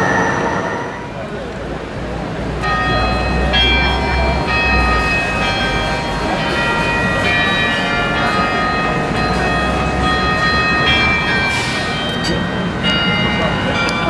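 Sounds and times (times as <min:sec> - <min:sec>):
tram high tones: 0:00.0 - 0:14.0
tram low rumble: 0:00.0 - 0:14.0.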